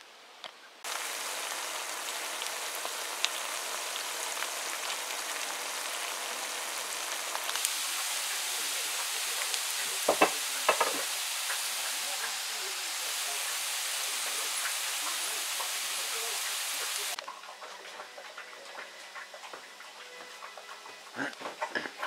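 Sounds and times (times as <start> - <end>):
vegetables sizzling in a pan: 0.8 - 22.0.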